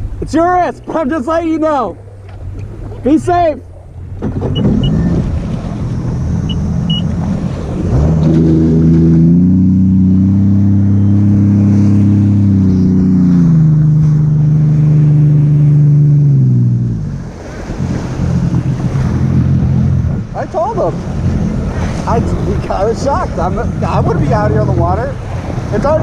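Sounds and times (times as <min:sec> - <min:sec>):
jet ski engine revving: 0:00.0 - 0:26.0
water noise: 0:00.0 - 0:26.0
wind: 0:00.0 - 0:26.0.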